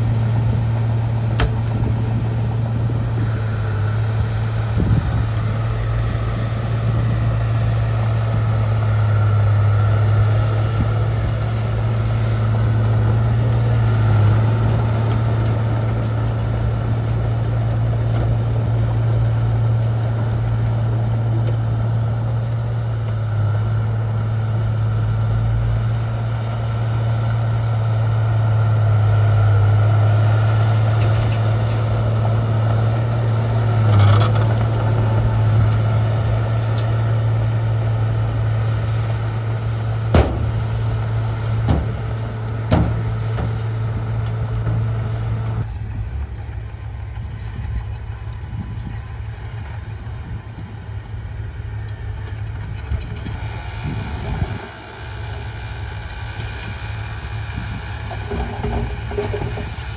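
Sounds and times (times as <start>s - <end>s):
bulldozer engine humming: 0.0s - 59.9s.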